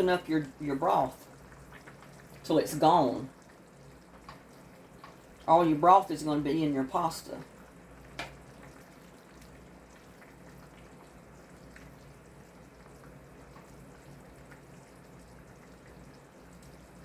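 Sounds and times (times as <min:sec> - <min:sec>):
low steady hum: 0:00.0 - 0:17.0
soup simmering with small pops: 0:00.0 - 0:17.0.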